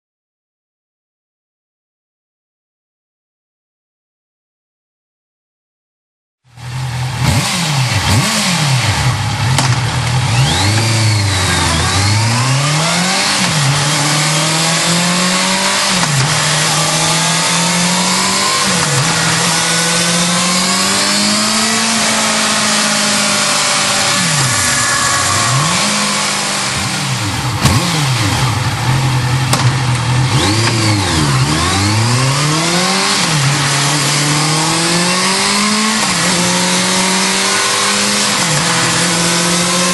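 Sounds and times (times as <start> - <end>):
motorcycle engine revving: 6.5 - 39.9.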